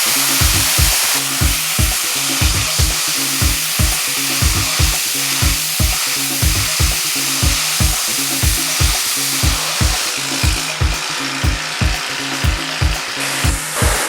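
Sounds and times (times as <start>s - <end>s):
background music with beat: 0.0s - 14.0s
pressure washer spraying: 0.0s - 14.0s.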